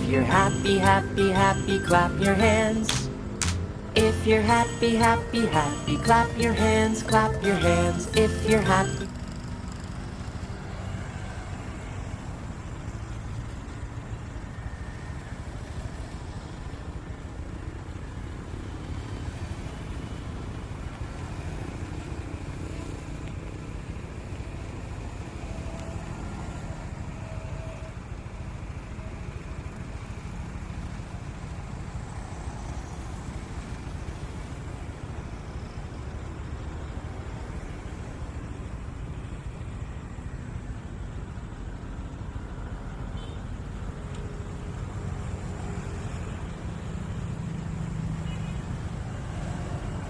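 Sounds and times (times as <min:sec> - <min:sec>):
road noise: 0:00.0 - 0:50.0.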